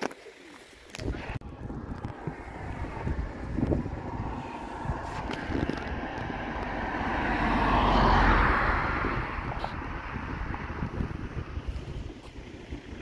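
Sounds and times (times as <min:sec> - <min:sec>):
wind buffeting microphone: 0:01.0 - 0:13.0
vehicle passing: 0:01.5 - 0:13.0.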